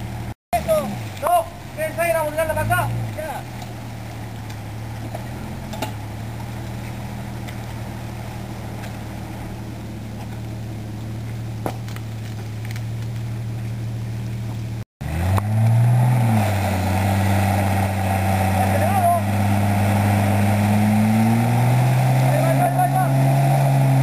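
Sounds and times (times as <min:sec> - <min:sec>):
engine revving: 0:00.0 - 0:24.0
vehicle engines idling: 0:00.0 - 0:24.0.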